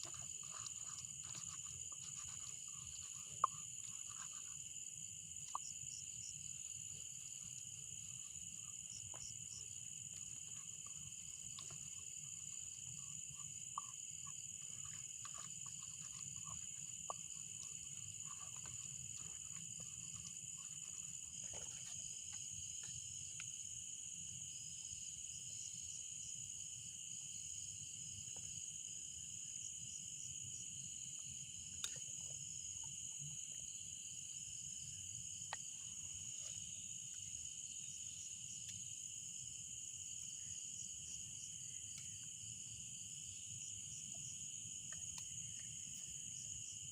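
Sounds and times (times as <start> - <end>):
crickets chirring: 0.0 - 46.9.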